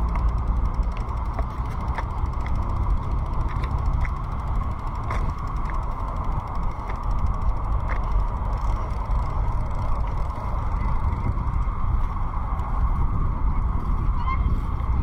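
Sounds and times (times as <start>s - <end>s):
bicycle tyre and drivetrain noise: 0.0s - 15.0s.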